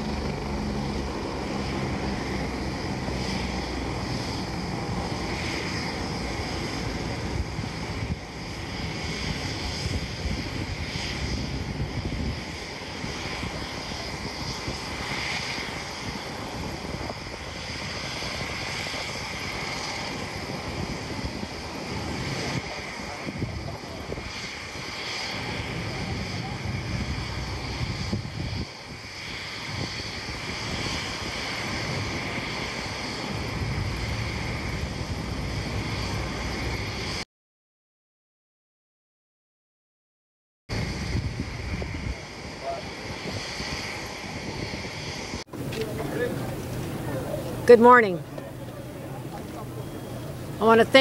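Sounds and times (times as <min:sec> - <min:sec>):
helicopter rotor throb: 0:00.0 - 0:37.2, 0:40.7 - 0:51.0
helicopter turbine hiss: 0:00.0 - 0:37.2, 0:40.7 - 0:51.0.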